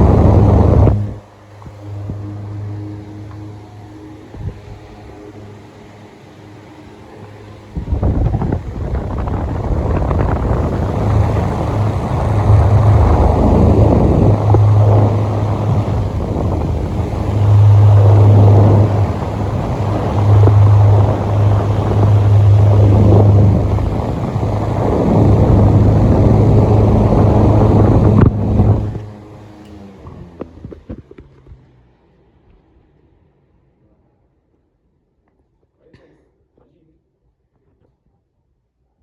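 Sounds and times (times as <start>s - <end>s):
electric fan wind buffeting: 0.0s - 33.4s.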